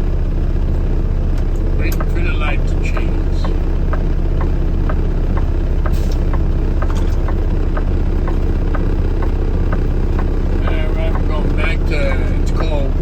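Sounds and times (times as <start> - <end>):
vehicle engine idling: 0.0 - 13.0
turn signal clicking: 1.3 - 13.0.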